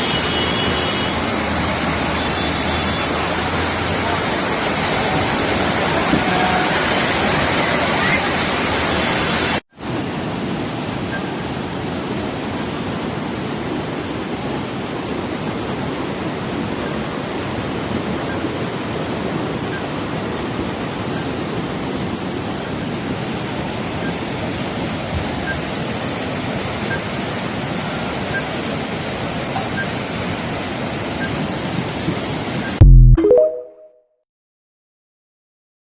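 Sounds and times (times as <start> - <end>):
heavy rain downpour: 0.0 - 32.8.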